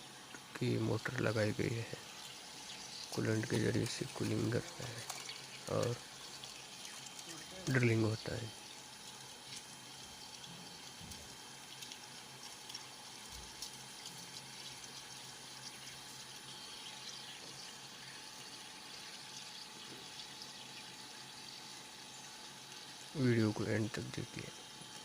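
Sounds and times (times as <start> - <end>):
coolant splashing: 0.0 - 25.0.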